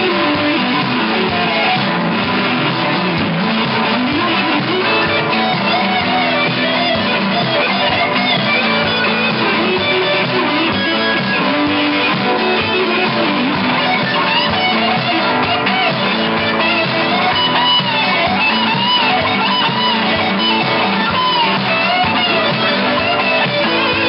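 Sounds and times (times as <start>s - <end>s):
electric guitar picked notes: 0.0s - 24.0s
live rock band playing: 0.0s - 24.0s.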